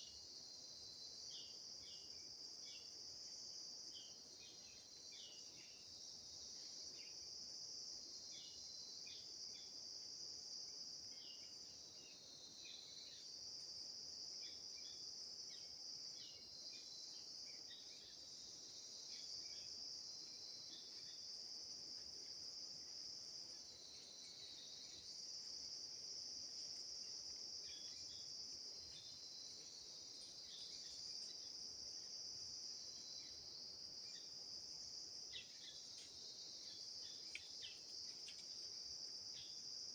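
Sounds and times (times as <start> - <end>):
high-pitched insect chorus: 0.0 - 39.9
insect chirps: 0.0 - 39.9.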